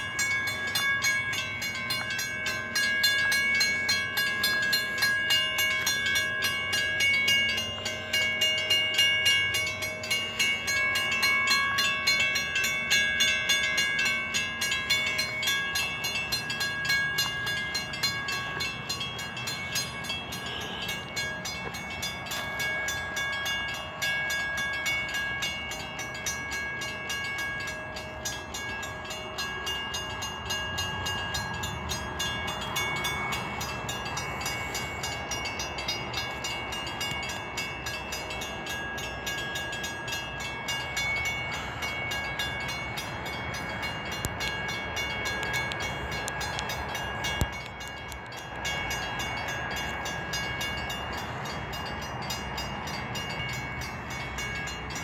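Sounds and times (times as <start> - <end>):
train wheels on rail: 0.0 - 55.0.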